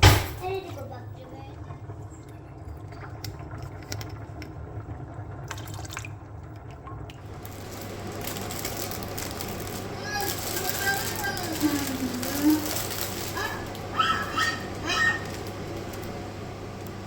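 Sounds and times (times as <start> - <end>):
water running: 0.0 - 17.0.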